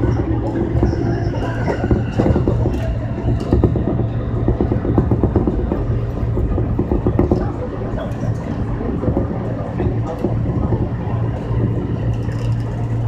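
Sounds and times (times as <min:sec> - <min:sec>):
train clicks and rattles: 0:00.0 - 0:13.0
train wheels rumbling on rails: 0:00.0 - 0:13.0.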